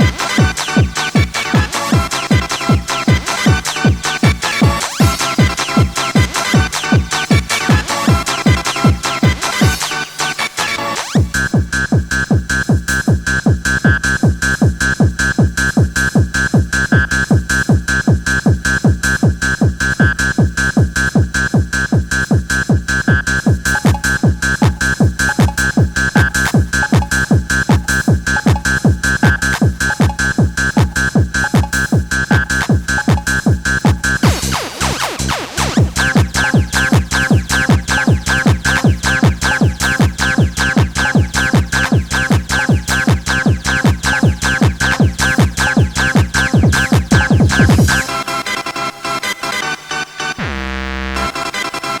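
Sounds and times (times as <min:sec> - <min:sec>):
fast techno music: 0:00.0 - 0:52.0.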